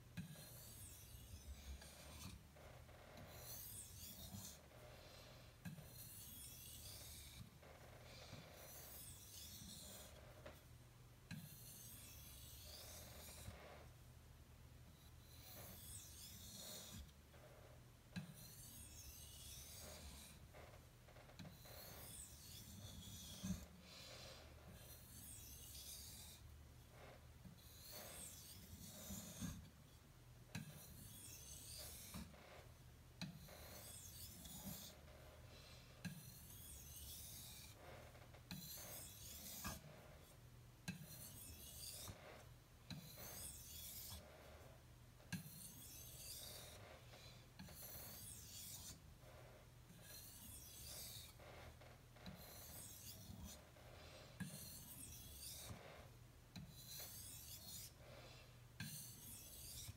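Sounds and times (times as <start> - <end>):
knife scraping on whetstone: 0.2 - 2.4, 3.2 - 7.6, 8.2 - 10.3, 11.3 - 13.6, 15.0 - 17.1, 18.2 - 20.4, 21.4 - 26.5, 27.5 - 29.7, 30.6 - 32.4, 33.2 - 35.1, 36.0 - 44.3, 45.3 - 49.0, 49.9 - 59.9.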